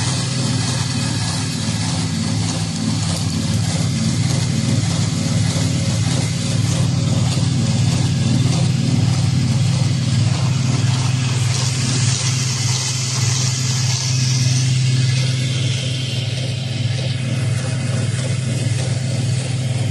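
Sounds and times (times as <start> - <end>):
sewing machine running: 0.0 - 19.9.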